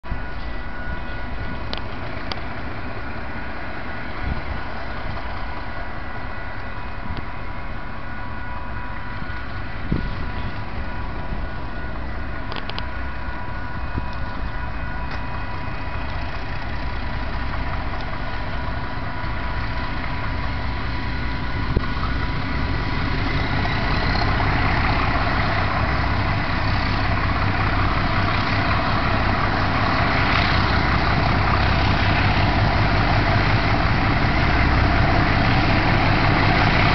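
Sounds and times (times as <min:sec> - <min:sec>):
diesel locomotives rumbling: 0:00.0 - 0:36.9
faint steady whine: 0:00.1 - 0:36.9.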